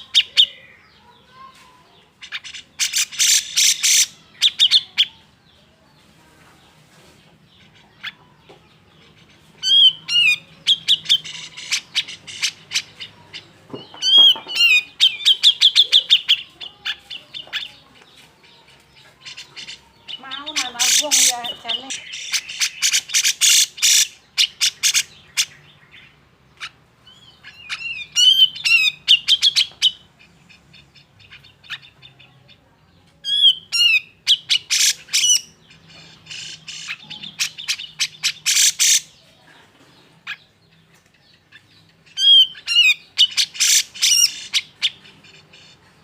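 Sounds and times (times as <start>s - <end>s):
bird harsh chattering calls: 0.0s - 5.3s, 7.3s - 46.0s.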